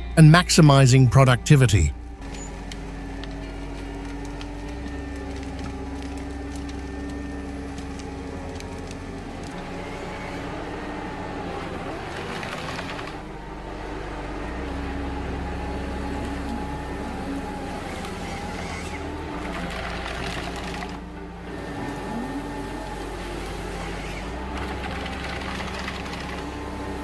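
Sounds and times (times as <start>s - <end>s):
heavy machine engine humming: 0.0s - 27.0s.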